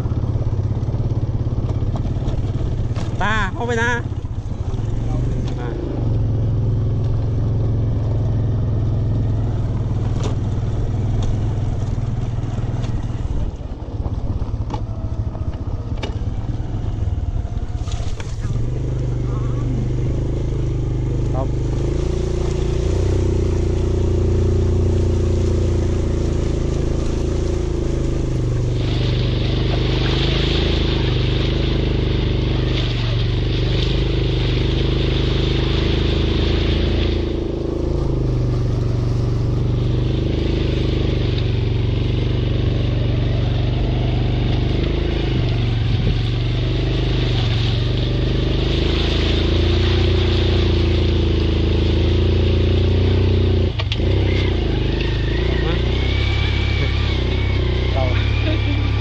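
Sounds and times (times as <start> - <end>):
small motorcycle engine running: 0.0 - 59.0.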